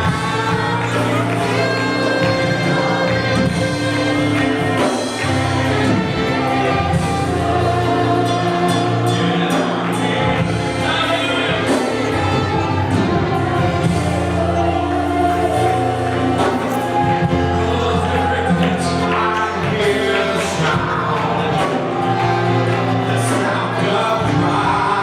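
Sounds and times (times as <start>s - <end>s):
band playing: 0.0s - 25.0s
voices singing worship music: 0.0s - 25.0s.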